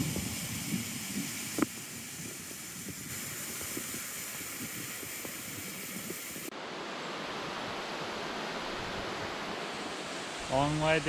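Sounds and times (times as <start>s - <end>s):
waterfall and creek rushing: 0.0s - 11.0s.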